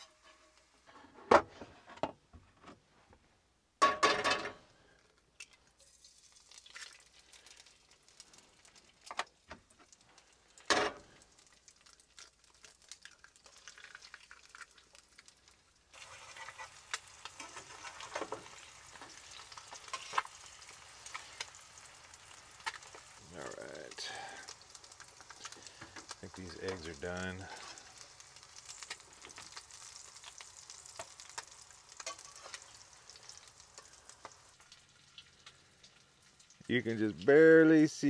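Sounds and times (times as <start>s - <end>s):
eggs sizzling in a pan: 0.0s - 1.2s, 4.7s - 38.0s.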